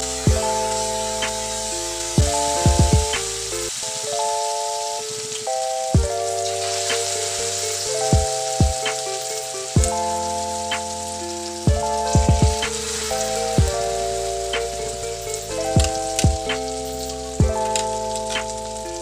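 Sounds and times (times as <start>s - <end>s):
keyboard chords with kick drum: 0.0s - 19.0s
steady high sizzle: 0.0s - 19.0s.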